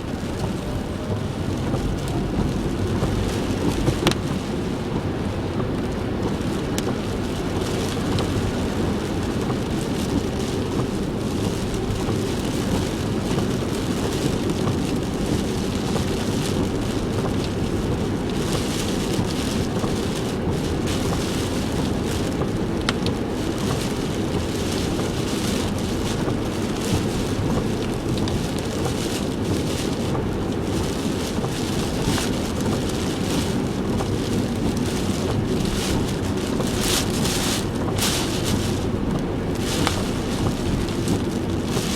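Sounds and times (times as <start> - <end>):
rain drumming on a car: 0.0 - 41.9
road and engine rumble: 0.0 - 41.9.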